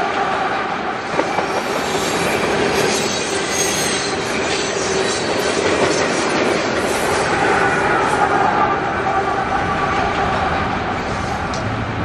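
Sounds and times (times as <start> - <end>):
train wheels rumbling on rail: 0.0 - 12.0
high-pitched wheel squeal: 1.3 - 11.4.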